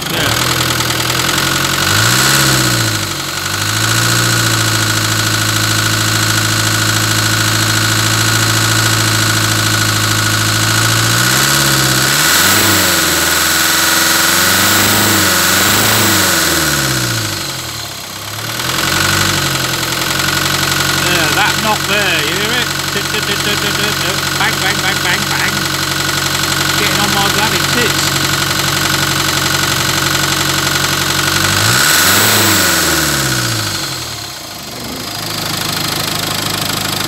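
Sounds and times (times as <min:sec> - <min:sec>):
diesel engine revving: 0:00.0 - 0:37.0
engine knocking: 0:00.0 - 0:37.0.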